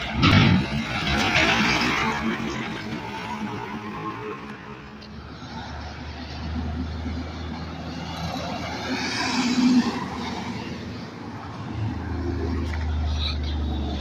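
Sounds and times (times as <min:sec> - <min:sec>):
road vehicle passing by: 0:00.0 - 0:14.0.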